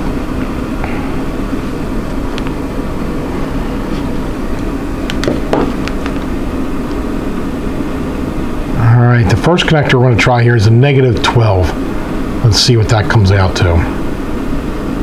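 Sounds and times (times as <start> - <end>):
power supply fan humming: 0.0 - 15.0.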